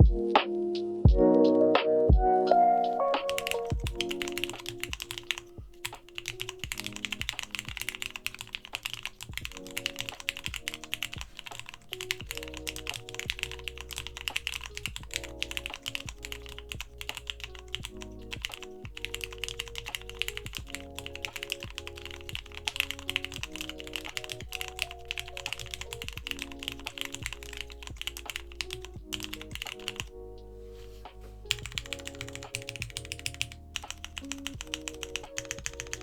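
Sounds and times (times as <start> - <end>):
background music: 0.0 - 36.0
fast mechanical keyboard typing: 2.9 - 30.1, 31.5 - 36.0.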